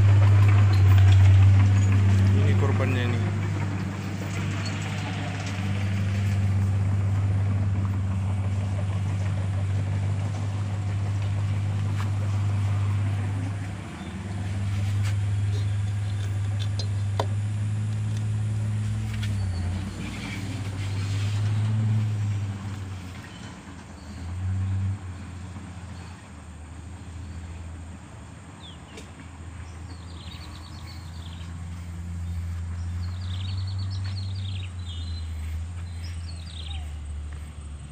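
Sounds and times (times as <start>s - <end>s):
truck engine idling: 0.0s - 37.9s.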